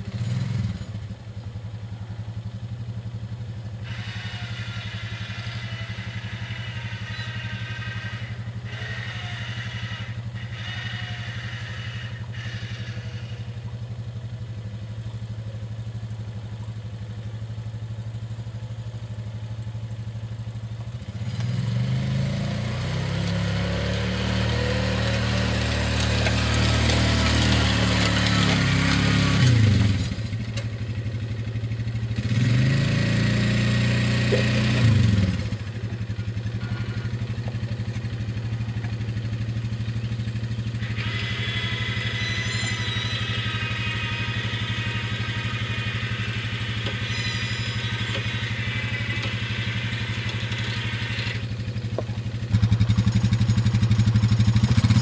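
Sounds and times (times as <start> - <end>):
atv engine idling and revving: 0.0 - 55.0.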